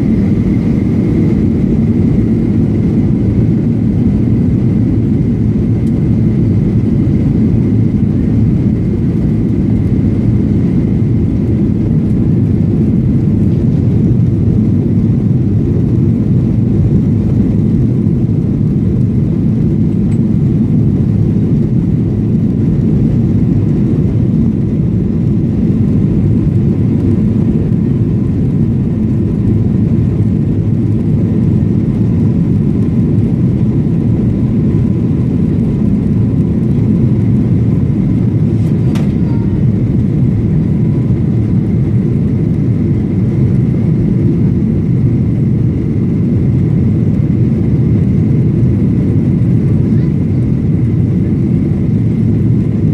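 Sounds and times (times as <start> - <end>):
faint engine whine: 0.0 - 52.9
jet engine drone in cabin: 0.0 - 52.9.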